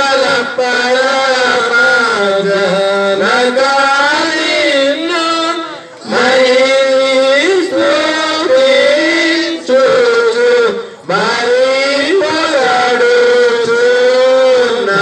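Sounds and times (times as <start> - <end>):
congregation singing a chant: 0.0 - 15.0.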